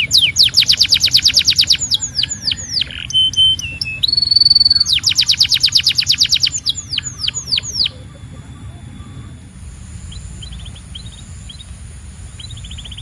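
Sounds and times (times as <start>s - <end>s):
canary singing trills and whistles: 0.0s - 13.0s.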